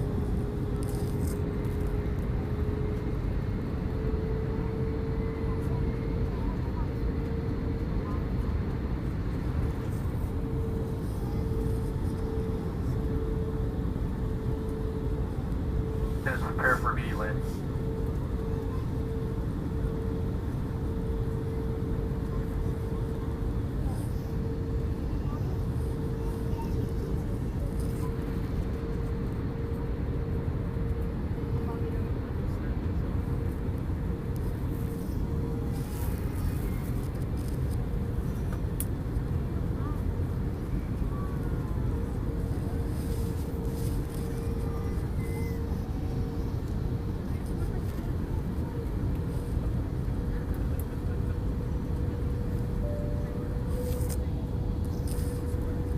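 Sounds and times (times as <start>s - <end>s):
drone of engines and airflow: 0.0s - 55.9s
faint steady whine: 0.0s - 55.9s
mid-pitched hum tone: 9.3s - 29.8s, 30.4s - 55.9s.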